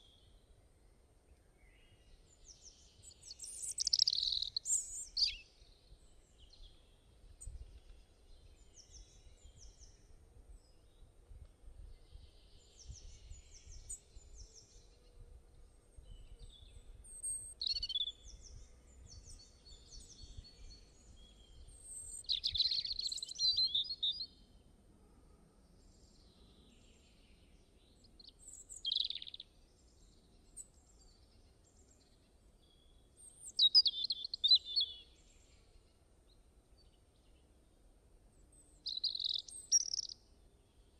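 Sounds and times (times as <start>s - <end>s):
songbirds singing and chirping: 0.0s - 24.8s, 25.7s - 40.9s.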